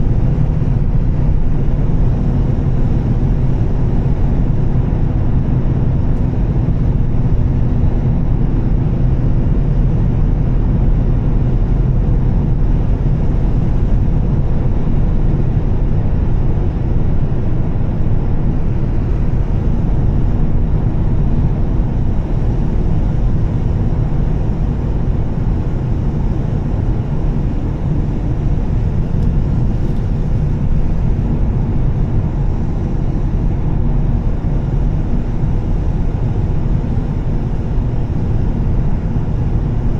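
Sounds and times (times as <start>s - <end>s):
car engine cruising: 0.0s - 39.9s
road and tyre noise: 0.0s - 39.9s.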